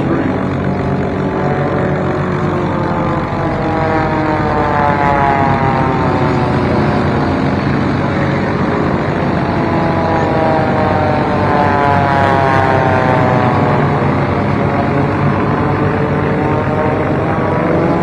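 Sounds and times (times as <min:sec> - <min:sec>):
plane engines racing past: 0:00.0 - 0:18.0.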